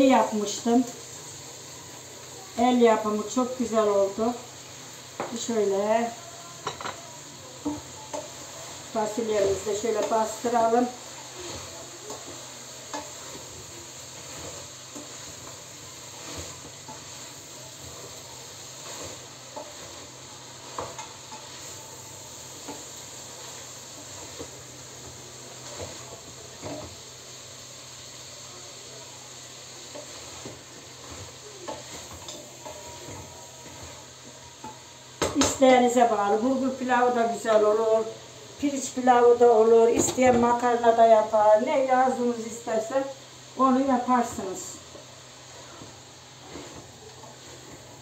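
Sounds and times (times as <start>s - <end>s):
beans sizzling in a pot: 0.0s - 48.0s.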